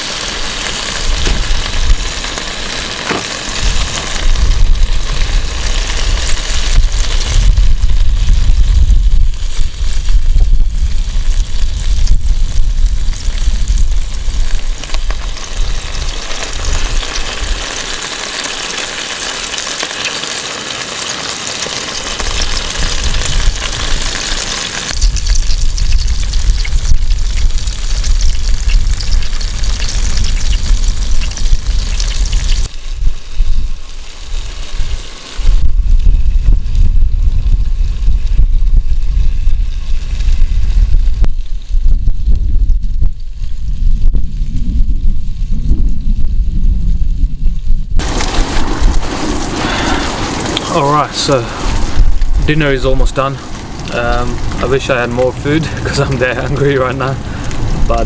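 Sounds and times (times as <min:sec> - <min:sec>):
food sizzling in a pan: 0:00.0 - 0:42.0, 0:48.0 - 0:58.0
wind rumble on microphone: 0:00.3 - 0:02.8, 0:03.4 - 0:18.0, 0:22.1 - 0:58.0.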